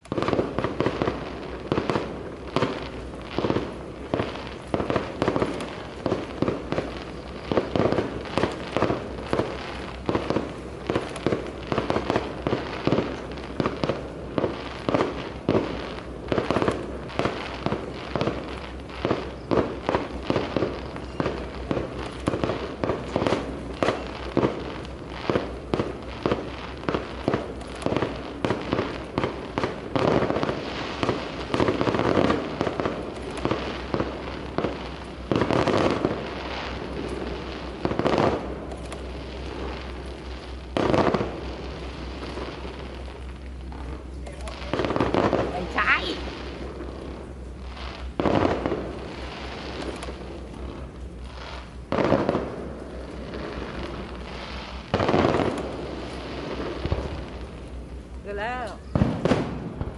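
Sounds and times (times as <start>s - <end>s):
continuous rumble: 0.0s - 59.9s
fireworks bursting: 0.0s - 59.9s.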